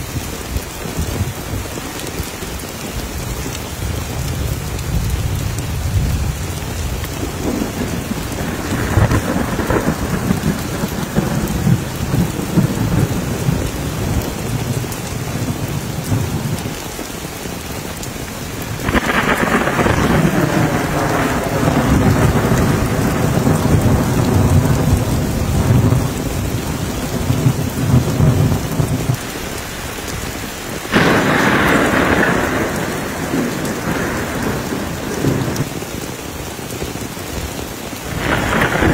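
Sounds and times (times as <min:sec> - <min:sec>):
heavy rain pouring: 0:00.0 - 0:38.9
thunder rumbling: 0:00.0 - 0:38.9.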